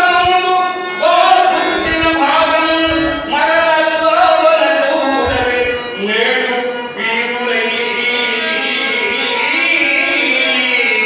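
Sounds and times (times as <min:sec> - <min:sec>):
man singing into a microphone: 0:00.0 - 0:11.0
musical accompaniment: 0:00.0 - 0:11.0.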